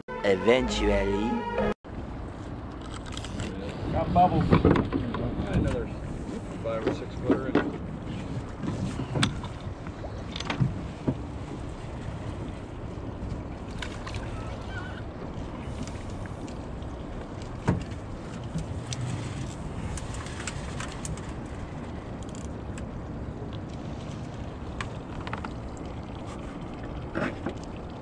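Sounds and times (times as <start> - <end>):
water against boat hull: 2.2 - 28.0.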